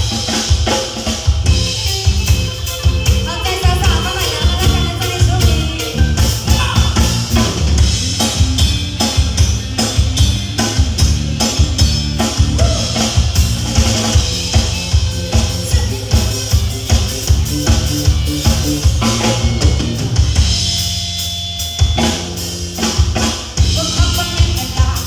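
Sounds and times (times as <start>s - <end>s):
drum kit steady beat: 0.0s - 25.0s
bass line: 1.3s - 25.0s.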